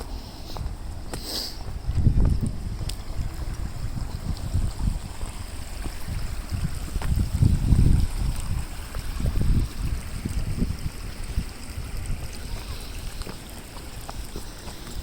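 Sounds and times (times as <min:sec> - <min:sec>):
low rumbling gusts: 0:00.0 - 0:14.3
creek water running over rocks: 0:00.0 - 0:15.0.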